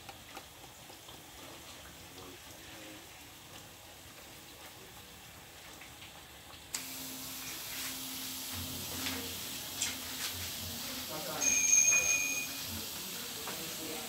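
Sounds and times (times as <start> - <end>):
dough frying in hot oil: 0.0 - 14.0.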